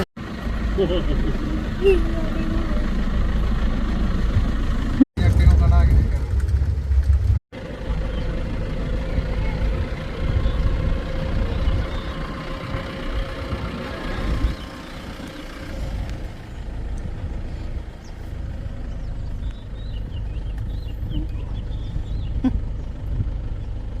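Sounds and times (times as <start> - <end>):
jeep engine rumbling: 0.0 - 24.0
steady engine whine: 0.0 - 24.0.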